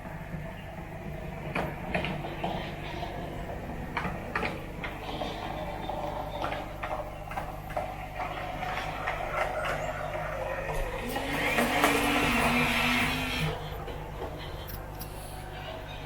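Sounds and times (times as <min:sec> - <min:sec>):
model train humming: 0:00.0 - 0:16.0.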